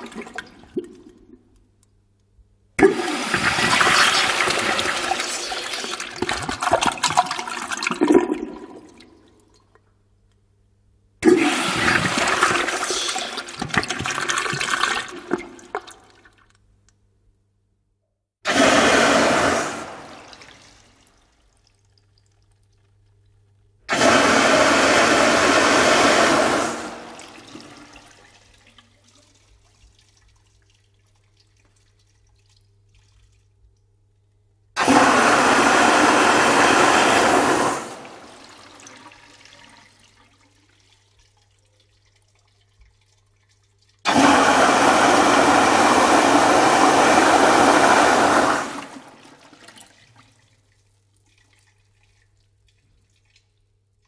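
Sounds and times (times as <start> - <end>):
urinal flushing: 0.0 - 1.6, 2.8 - 9.8, 11.2 - 16.6, 18.5 - 23.0, 23.9 - 33.6, 34.8 - 54.0.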